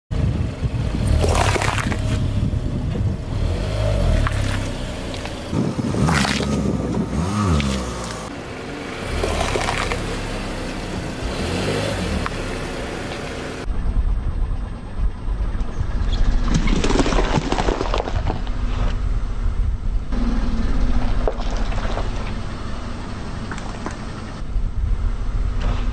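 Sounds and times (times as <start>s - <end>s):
car running low: 0.2s - 16.4s, 18.4s - 25.9s.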